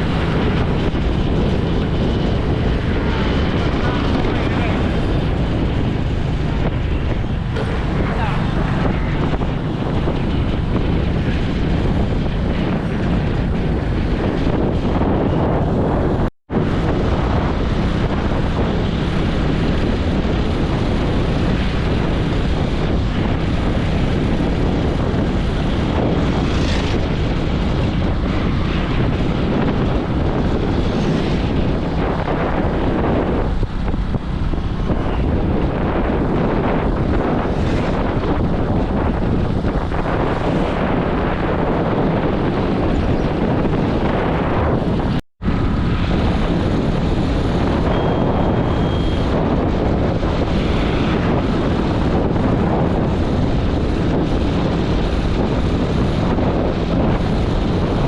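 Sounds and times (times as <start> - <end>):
vehicle and road noise: 0.0 - 58.0
wind buffeting microphone: 0.0 - 58.0.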